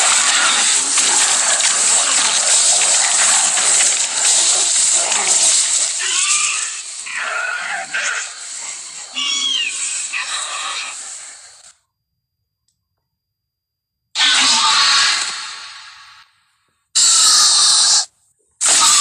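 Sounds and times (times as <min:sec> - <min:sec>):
hissing rasping creature calls: 0:00.0 - 0:11.6, 0:14.2 - 0:16.0, 0:17.0 - 0:19.0.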